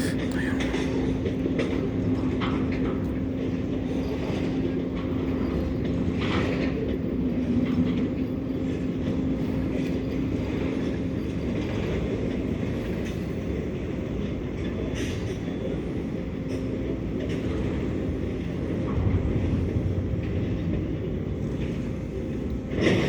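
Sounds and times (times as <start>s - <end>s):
constant hum: 0.0s - 23.0s.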